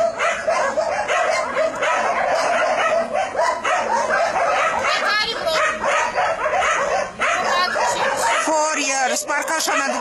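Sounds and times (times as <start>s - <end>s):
dogs barking: 0.0s - 10.0s.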